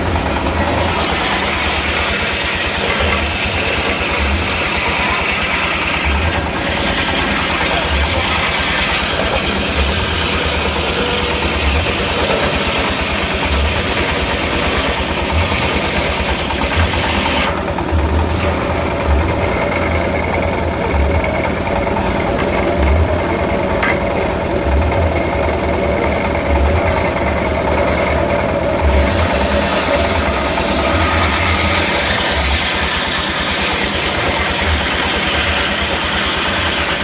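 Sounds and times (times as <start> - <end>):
sawmill engine rumbling: 0.0 - 37.0.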